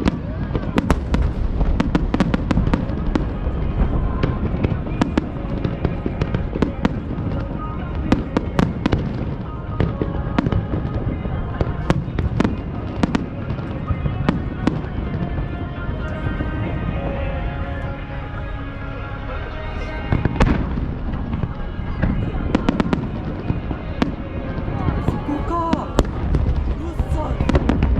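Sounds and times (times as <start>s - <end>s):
fireworks bangs and crackles: 0.0s - 17.6s, 20.0s - 27.9s
continuous rumble: 0.0s - 27.9s
faint background music: 0.0s - 27.9s.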